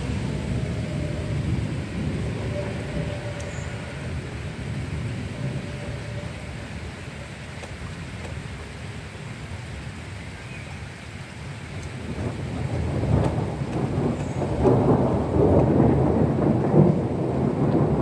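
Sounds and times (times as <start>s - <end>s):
distant thunder rumbling: 0.0s - 8.7s, 11.7s - 18.0s
steady rain hiss: 0.0s - 18.0s.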